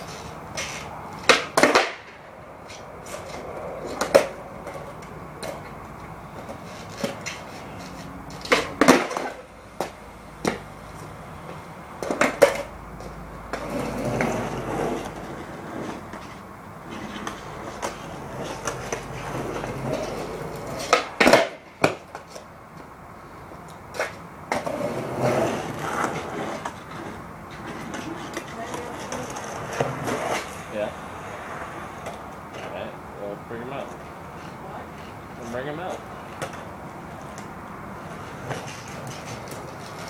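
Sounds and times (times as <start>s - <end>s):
skateboard knocks and clacks: 0.0s - 22.9s, 23.6s - 32.8s, 33.8s - 40.0s
skateboard scraping and rolling: 0.0s - 40.0s.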